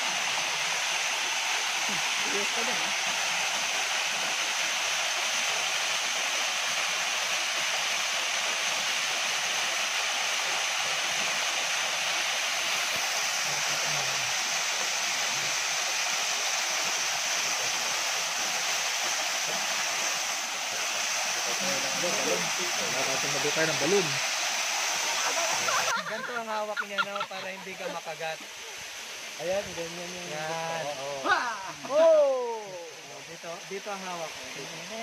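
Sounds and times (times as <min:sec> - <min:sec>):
small waterfall splashing: 0:00.0 - 0:35.0.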